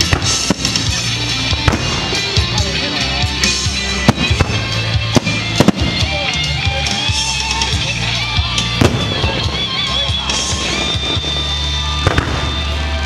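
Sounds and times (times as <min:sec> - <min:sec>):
fireworks bangs: 0:00.0 - 0:08.0, 0:08.6 - 0:13.0
music playing: 0:00.0 - 0:13.0.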